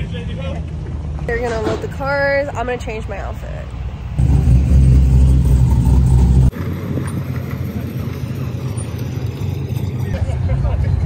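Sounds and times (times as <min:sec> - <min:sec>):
car engine rumbling: 0:00.0 - 0:11.0
engine and traffic rumble: 0:00.0 - 0:11.0.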